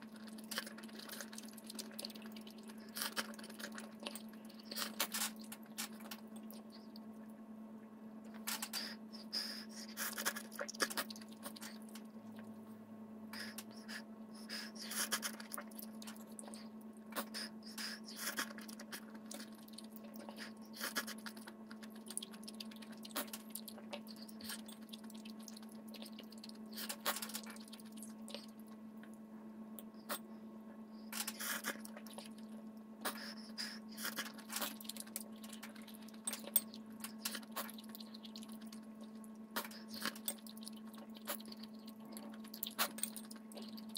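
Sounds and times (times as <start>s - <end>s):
slurping: 0.0s - 6.8s, 8.5s - 12.0s, 13.4s - 28.6s, 31.2s - 43.9s
chewing: 0.0s - 7.1s, 8.4s - 12.5s, 13.4s - 28.8s, 31.2s - 43.9s
steady low hum: 0.0s - 43.9s.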